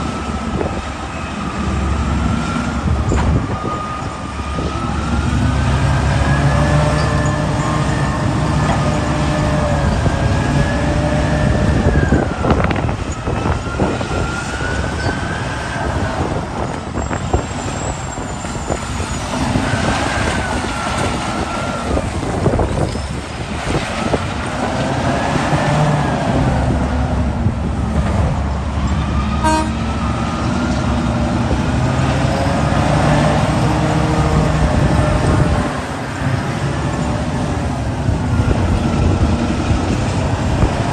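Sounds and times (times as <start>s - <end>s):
digger diesel engine and hydraulics: 0.0s - 40.9s.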